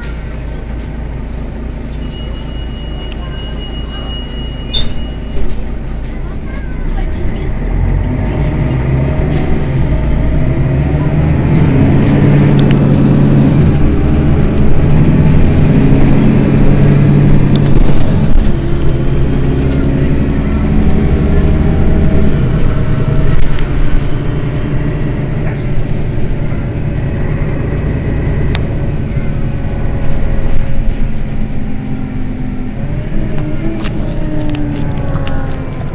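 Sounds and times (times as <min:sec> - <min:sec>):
bus engine running: 0:00.0 - 0:35.9.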